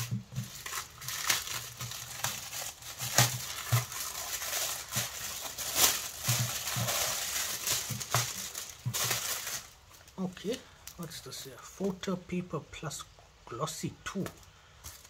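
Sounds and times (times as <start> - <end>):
plastic packaging crinkling: 0.0 - 11.6, 14.1 - 15.0.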